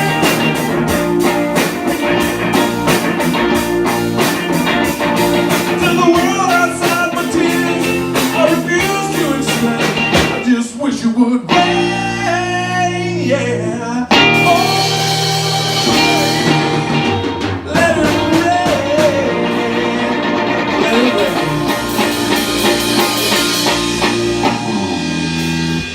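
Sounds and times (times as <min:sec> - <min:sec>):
slow soul band playing: 0:00.0 - 0:10.7, 0:11.4 - 0:25.9.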